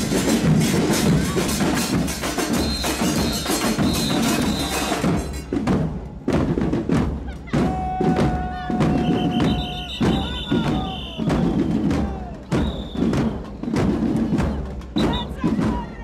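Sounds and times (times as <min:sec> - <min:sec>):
cymbals: 0:00.0 - 0:06.2, 0:08.8 - 0:15.7
marching drum band: 0:00.0 - 0:16.0
snare drums: 0:00.0 - 0:16.0.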